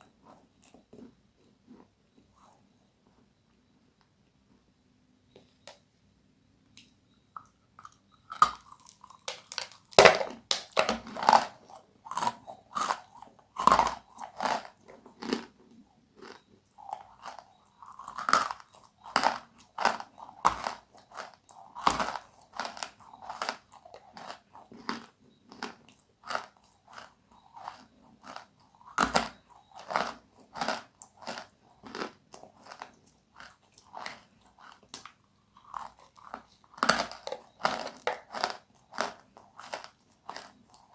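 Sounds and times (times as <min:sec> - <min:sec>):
chewing crunchy food: 0:00.0 - 0:02.8, 0:06.6 - 0:40.9.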